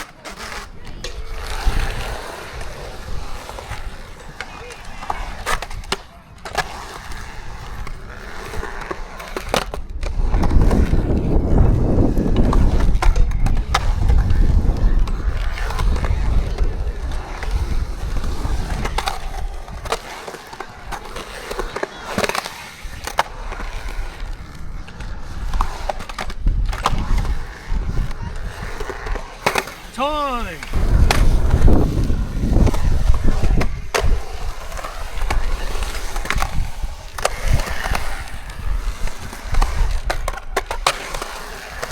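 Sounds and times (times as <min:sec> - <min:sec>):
skateboard wheels rumbling: 0:00.0 - 0:29.9, 0:30.6 - 0:41.9
skateboard clacking on concrete: 0:00.0 - 0:41.9.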